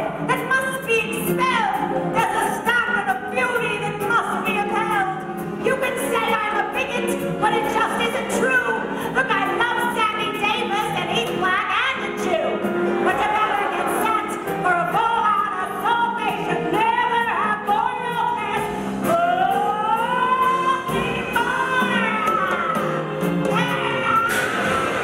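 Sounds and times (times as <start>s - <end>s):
woman singing show tune: 0.0s - 24.9s
instrumental accompaniment: 0.0s - 25.0s.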